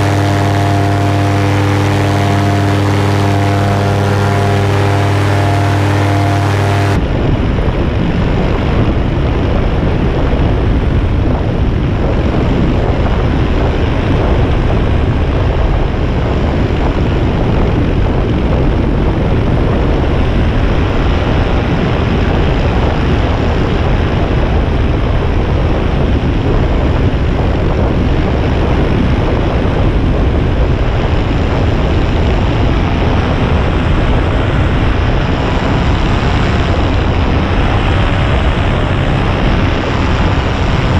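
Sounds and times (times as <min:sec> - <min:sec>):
paramotor engine and propeller: 0:00.0 - 0:40.9
wind rush on microphone: 0:00.0 - 0:40.9.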